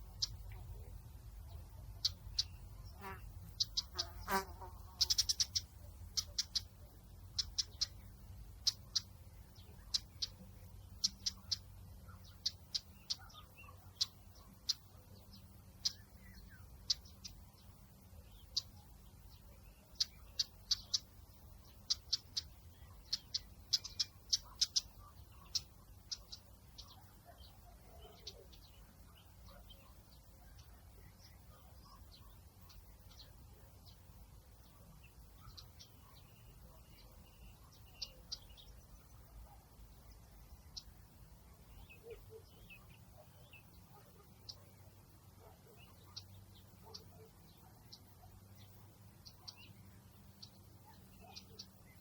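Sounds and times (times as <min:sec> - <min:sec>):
bird chirping: 0:00.0 - 0:52.0.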